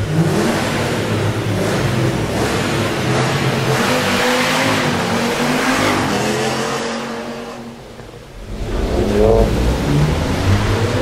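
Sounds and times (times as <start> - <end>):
car accelerating hard: 0.0 - 11.0.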